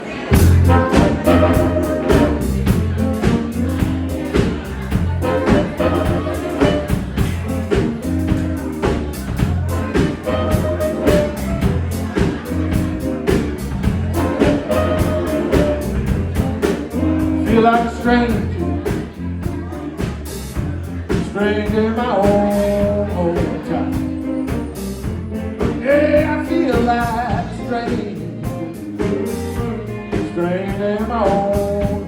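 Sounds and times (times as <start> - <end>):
blues band playing: 0.0 - 32.0
steady drum beat: 0.3 - 32.0.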